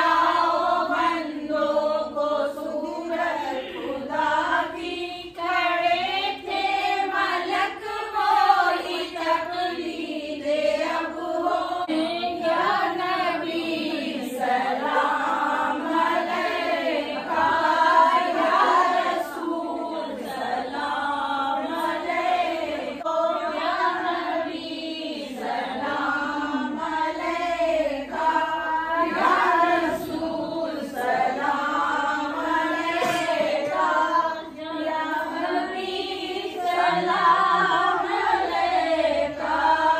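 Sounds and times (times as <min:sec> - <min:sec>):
women singing in unison: 0:00.0 - 0:39.9.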